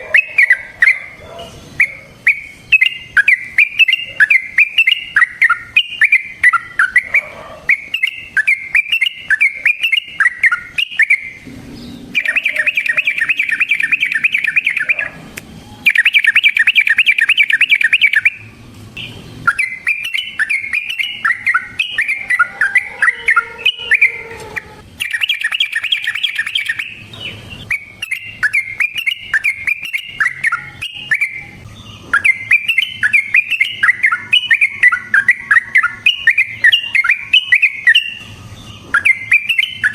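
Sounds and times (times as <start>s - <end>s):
fast repeated bird trill: 0.0s - 15.2s, 15.8s - 39.9s
bulbul chattering song: 0.0s - 39.9s.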